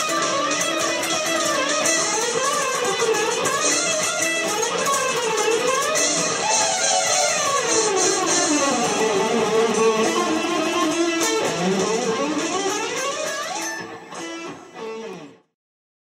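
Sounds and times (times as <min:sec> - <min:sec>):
guitar background music: 0:00.0 - 0:15.5.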